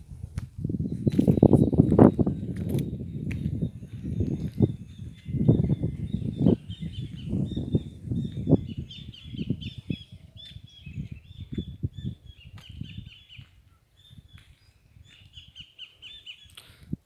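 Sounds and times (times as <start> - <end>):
small birds chirping: 0.8 - 16.8.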